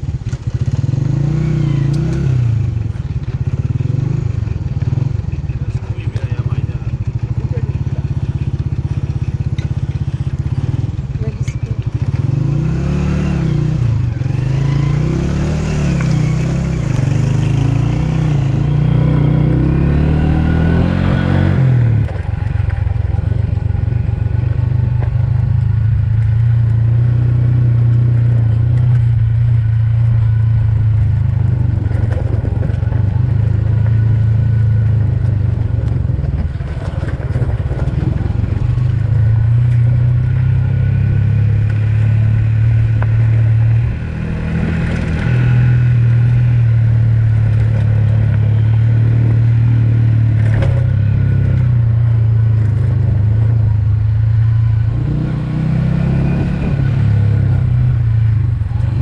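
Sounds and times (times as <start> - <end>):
motorcycle engine: 0.0 - 59.0.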